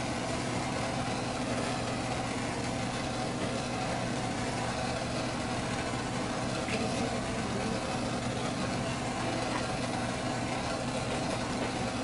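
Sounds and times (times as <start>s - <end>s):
propane torch flame hissing: 0.0s - 12.0s
wood lathe humming: 0.0s - 12.0s.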